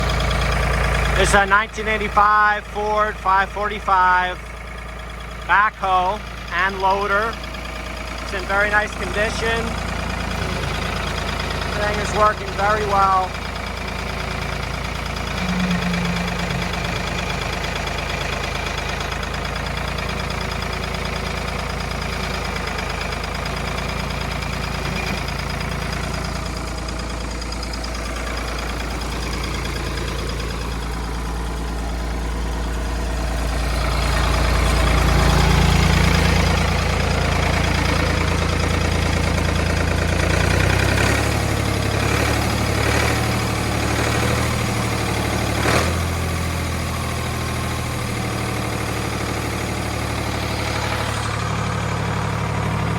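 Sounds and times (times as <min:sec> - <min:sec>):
backhoe engine idling: 0:00.0 - 0:52.9.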